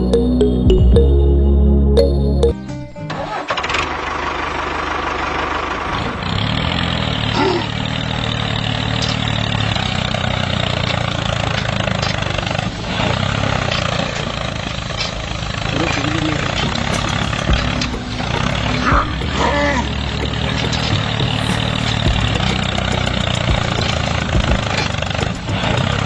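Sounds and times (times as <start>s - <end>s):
tractor engine running: 2.8s - 26.0s.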